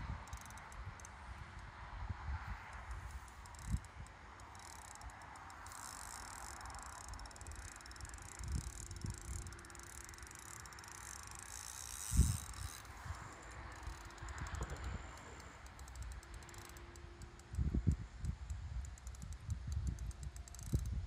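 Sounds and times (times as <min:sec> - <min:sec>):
fishing reel ticking: 0:00.0 - 0:21.0.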